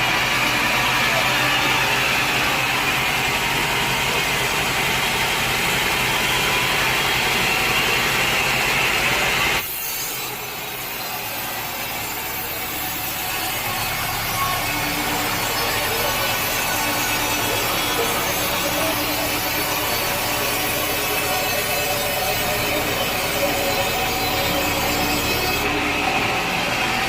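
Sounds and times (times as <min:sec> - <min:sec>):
sawmill blade cutting log: 0:00.0 - 0:27.0.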